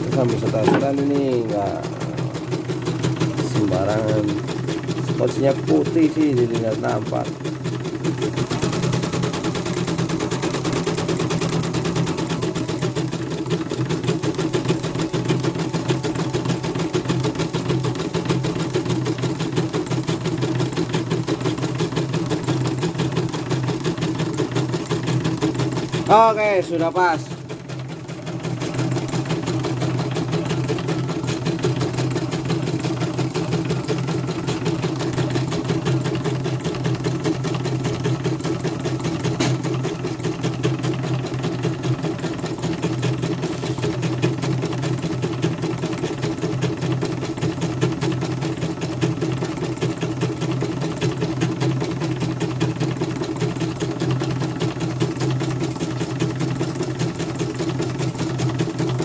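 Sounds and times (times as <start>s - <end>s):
embroidery machine clattering: 0.0s - 59.0s.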